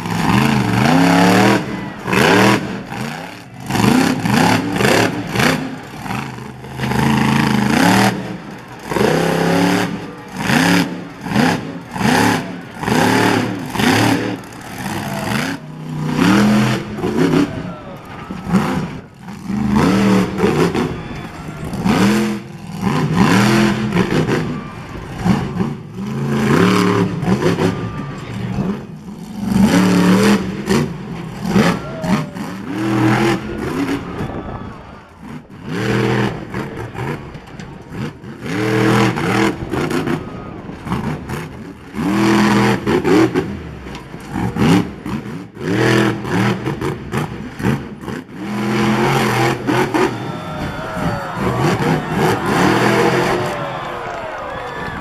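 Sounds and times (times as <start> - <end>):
monster truck engines revving: 0.0 - 55.0.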